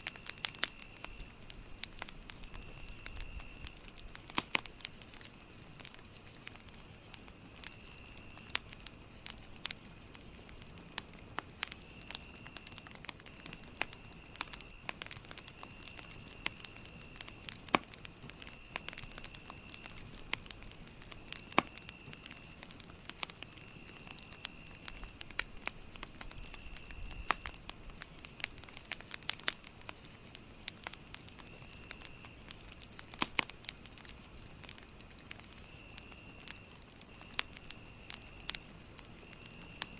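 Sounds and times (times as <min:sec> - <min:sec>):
campfire crackling and popping: 0:00.0 - 0:39.9
insect trill: 0:00.0 - 0:39.9
insects chirping: 0:00.0 - 0:39.9.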